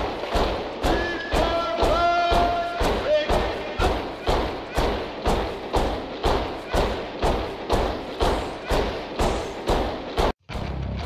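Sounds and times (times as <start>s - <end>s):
marching boots stomping in unison: 0.0s - 10.4s.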